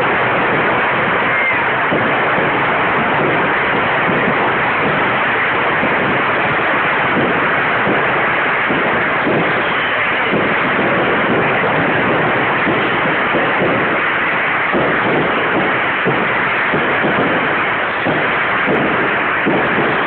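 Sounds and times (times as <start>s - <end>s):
bonfire rushing and crackling: 0.0s - 20.0s.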